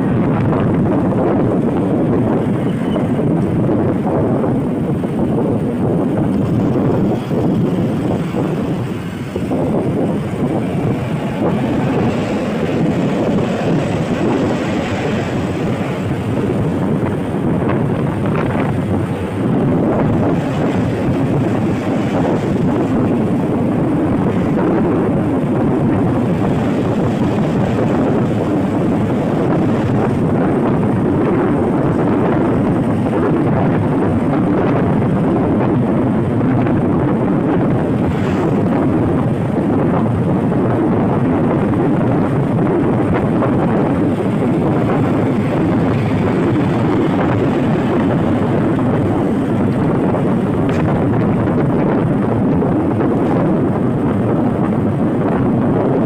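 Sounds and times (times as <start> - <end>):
vehicle driving noise: 0.0 - 56.0.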